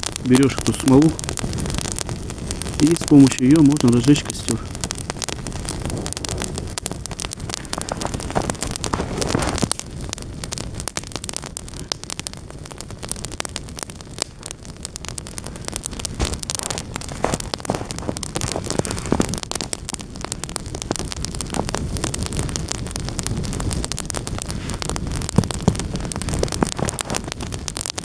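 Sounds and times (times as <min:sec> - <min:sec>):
campfire crackling and popping: 0:00.0 - 0:28.0
fire hissing: 0:00.0 - 0:28.0.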